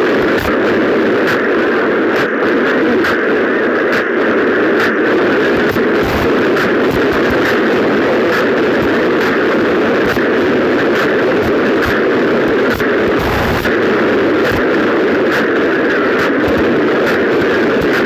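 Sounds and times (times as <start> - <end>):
crackles: 0.0 - 18.0
harsh distorted static noise: 0.0 - 18.0.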